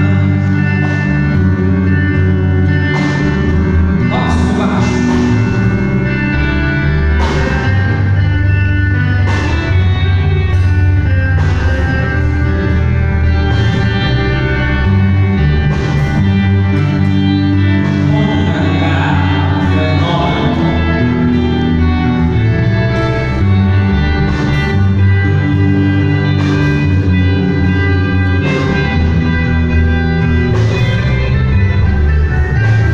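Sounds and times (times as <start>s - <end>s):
band playing held chords: 0.0s - 32.9s
low bass notes: 0.0s - 32.9s.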